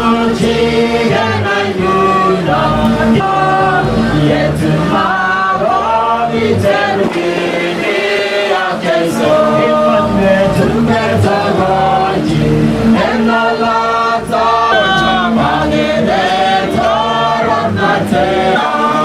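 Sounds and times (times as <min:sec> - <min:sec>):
congregation singing a hymn: 0:00.0 - 0:19.0
man singing through microphone: 0:00.0 - 0:19.0.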